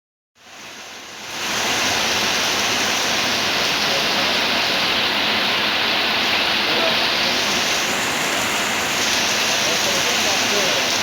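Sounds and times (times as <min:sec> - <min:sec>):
heavy rain falling: 0:00.4 - 0:11.0.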